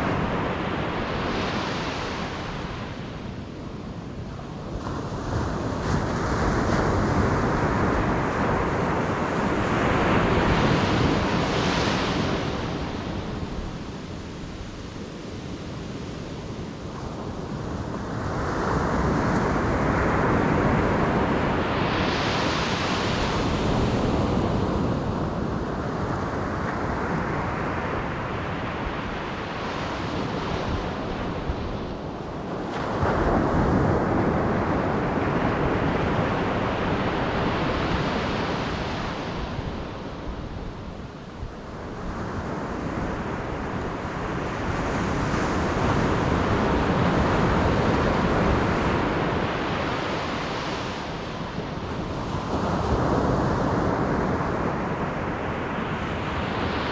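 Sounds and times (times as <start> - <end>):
waves crashing on beach: 0.0 - 56.9.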